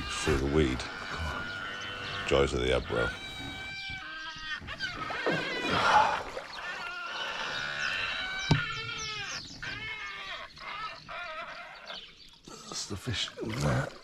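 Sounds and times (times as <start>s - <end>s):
fishing line creaking and squealing: 0.0s - 12.6s.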